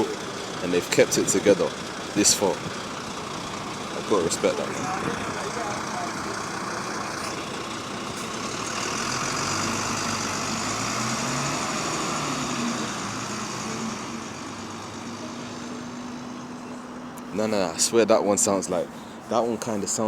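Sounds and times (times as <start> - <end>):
bus diesel engine accelerating: 0.0 - 20.0.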